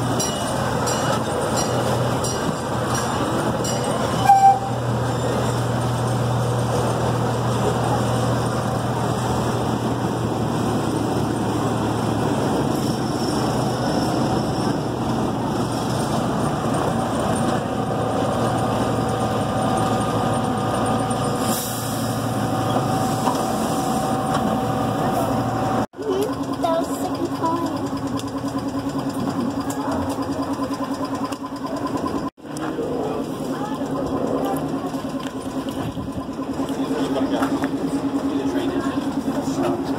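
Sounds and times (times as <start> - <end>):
miniature train engine drone: 0.0 - 39.9
train rolling rumble: 0.0 - 39.9.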